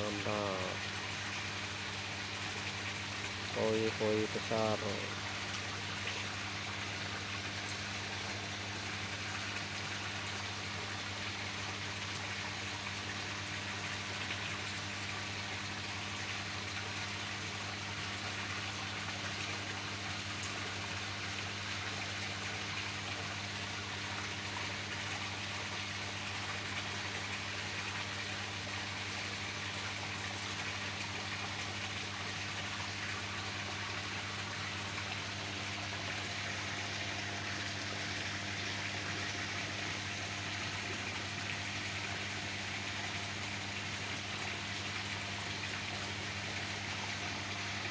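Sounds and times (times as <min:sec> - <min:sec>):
pump hum: 0:00.0 - 0:47.9.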